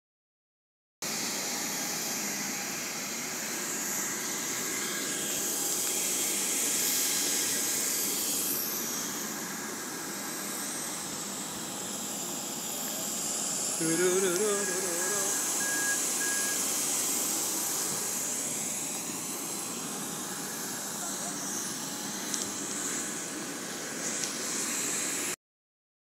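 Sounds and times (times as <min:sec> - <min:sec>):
jet turbine whine: 0:01.0 - 0:25.4.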